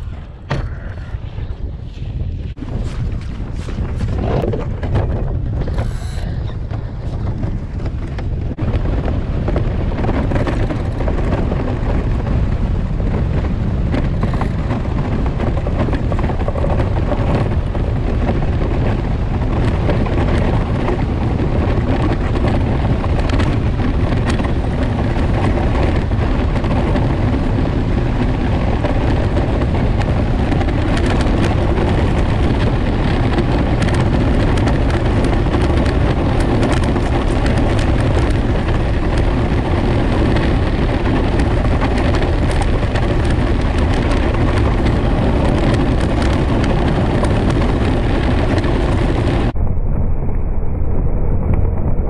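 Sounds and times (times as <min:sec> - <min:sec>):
steel runners rumbling on ice: 0:00.0 - 0:49.6.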